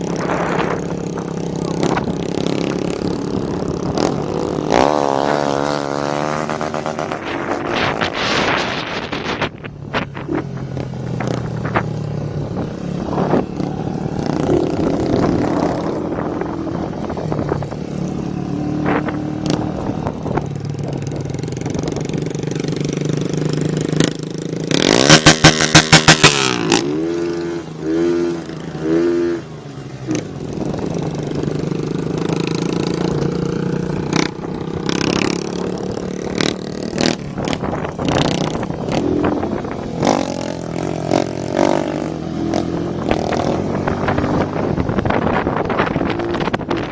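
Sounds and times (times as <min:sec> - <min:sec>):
motorcycle engines running: 0:00.0 - 0:46.9.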